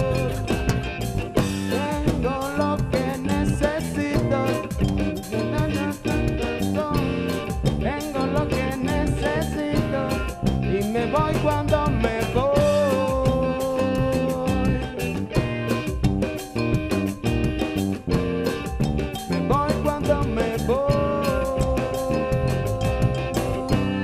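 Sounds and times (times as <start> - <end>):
man singing: 0.0 - 15.4, 19.3 - 24.0
drum beat: 0.0 - 24.0
guitar: 0.0 - 24.0
keyboard: 0.0 - 24.0.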